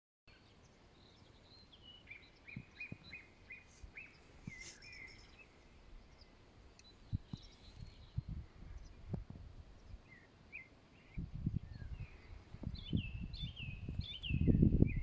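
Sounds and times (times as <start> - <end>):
songbird singing: 0.3 - 15.0.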